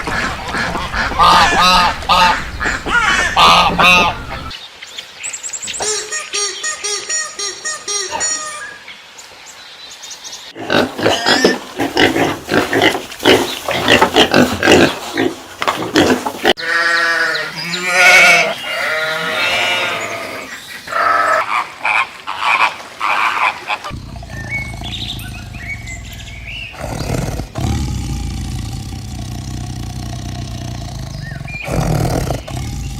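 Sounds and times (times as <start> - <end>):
farm animals calling: 0.0 - 4.6, 5.7 - 8.9, 10.6 - 32.9.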